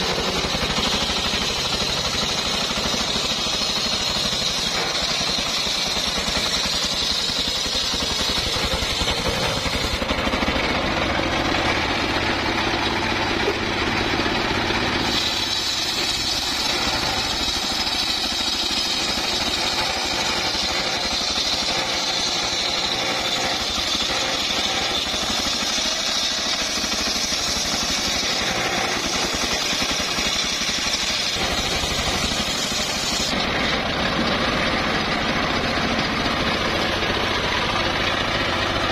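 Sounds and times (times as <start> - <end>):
engine running steadily: 0.0 - 38.9
saw blade whining in wood: 0.0 - 38.9.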